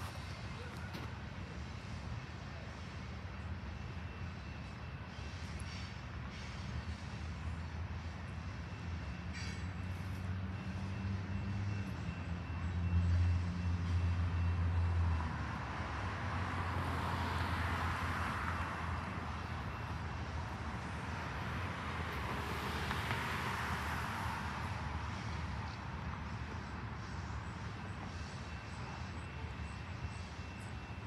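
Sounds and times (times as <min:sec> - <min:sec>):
cars passing on a street: 0:00.0 - 0:31.0
freight train rumbling by: 0:00.0 - 0:31.0.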